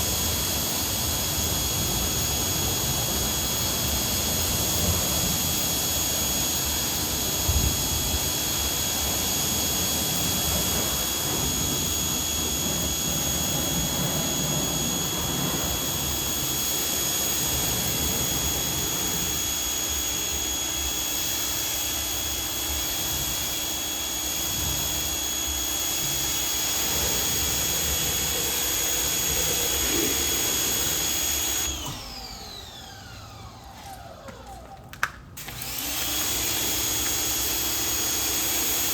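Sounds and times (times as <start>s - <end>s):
pressure washer motor whine: 0.0s - 38.9s.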